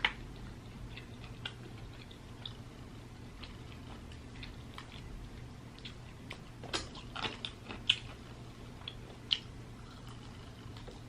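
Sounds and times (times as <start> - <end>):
faint low hum: 0.0 - 11.0
person chewing food: 0.0 - 11.0.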